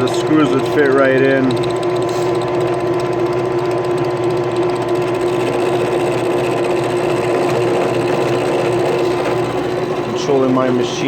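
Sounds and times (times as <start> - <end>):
drill press humming: 0.0 - 11.0.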